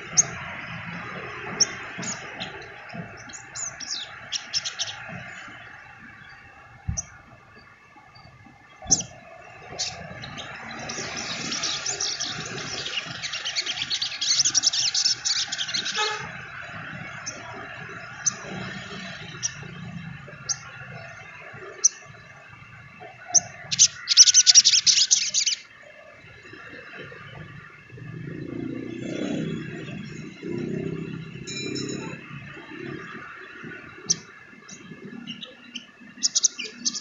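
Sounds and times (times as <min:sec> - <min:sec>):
bird chattering song: 0:00.0 - 0:00.4, 0:01.0 - 0:07.2, 0:08.8 - 0:16.4, 0:17.0 - 0:22.1, 0:23.0 - 0:25.8, 0:29.0 - 0:37.0.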